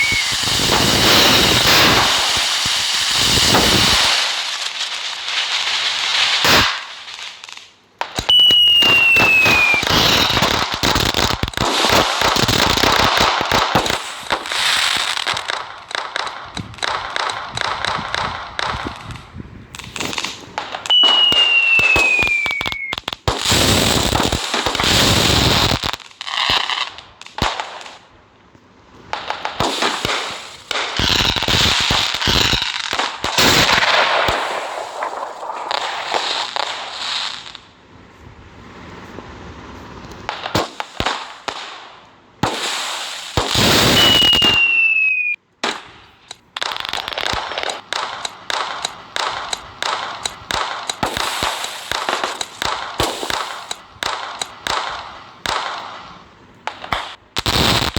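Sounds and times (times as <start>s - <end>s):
whistling firework: 0.0s - 28.0s, 29.0s - 37.8s, 38.5s - 57.9s
firecrackers crackling and popping: 0.0s - 37.8s, 39.0s - 57.9s.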